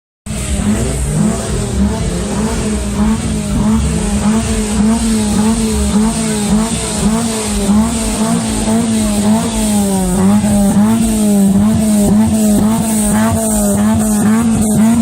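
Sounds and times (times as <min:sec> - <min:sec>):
engine exhaust running high: 0:00.2 - 0:15.0.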